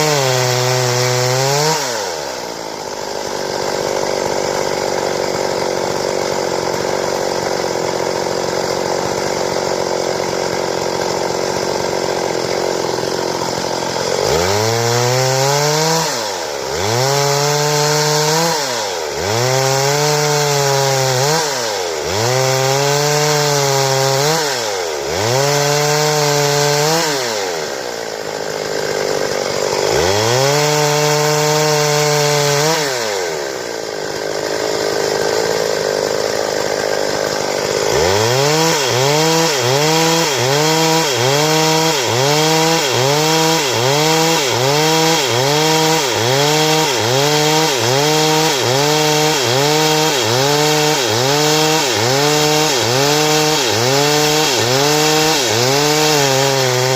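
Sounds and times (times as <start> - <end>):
chainsaw cutting wood: 0.0 - 56.9
chainsaw engine revving: 0.0 - 56.9.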